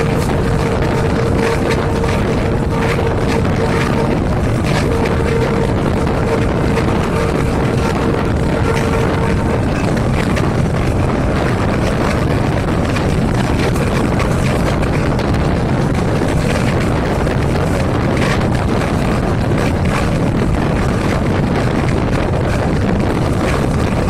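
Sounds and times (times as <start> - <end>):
diesel train engine rumbling: 0.0 - 24.0
rushing noise: 0.0 - 24.0
steady whine: 0.0 - 24.0.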